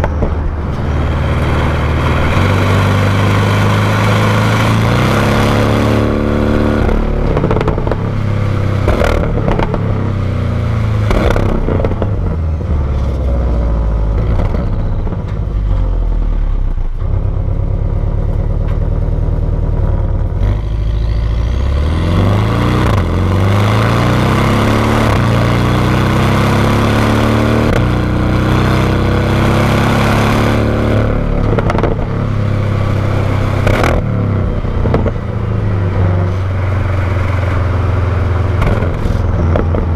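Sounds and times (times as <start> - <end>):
car engine exhaust accelerating: 0.0 - 39.9.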